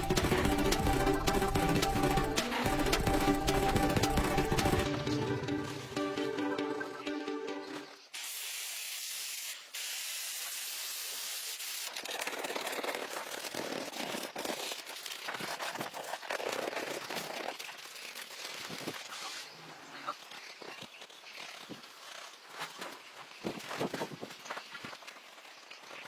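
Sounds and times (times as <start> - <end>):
crackles: 0.0 - 5.1, 8.2 - 26.0.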